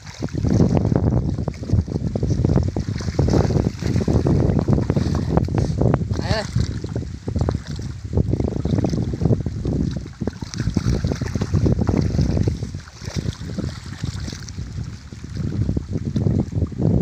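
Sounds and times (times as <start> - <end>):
child splashing through muddy water: 0.0 - 7.9, 8.5 - 14.6
wind rumble on microphone: 0.0 - 17.0.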